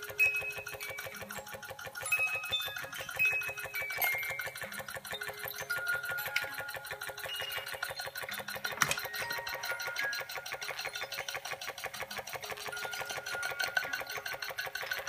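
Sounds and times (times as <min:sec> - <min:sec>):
toy steam engine chuffing: 0:00.0 - 0:15.0.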